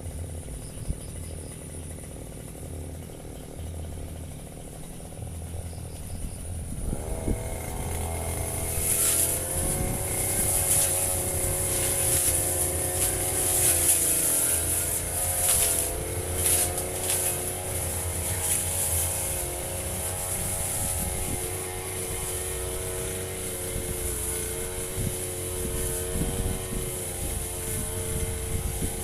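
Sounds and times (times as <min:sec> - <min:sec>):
brush cutter engine cutting grass: 0:00.0 - 0:29.0.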